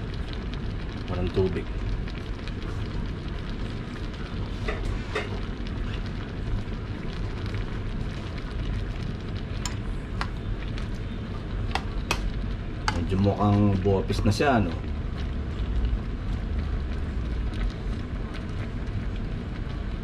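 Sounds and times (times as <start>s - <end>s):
stew sizzling and bubbling: 0.0s - 20.0s.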